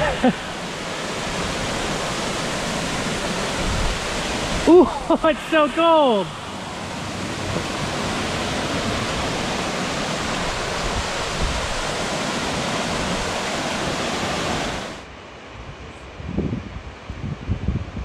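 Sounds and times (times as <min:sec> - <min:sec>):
wind on microphone: 0:00.0 - 0:05.2, 0:06.8 - 0:15.0, 0:15.6 - 0:18.0.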